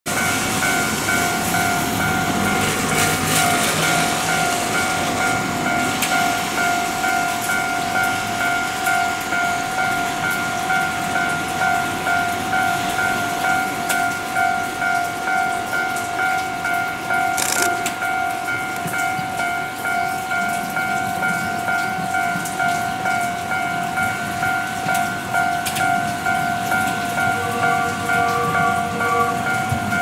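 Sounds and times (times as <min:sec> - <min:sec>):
level crossing warning bell: 0:00.1 - 0:30.0.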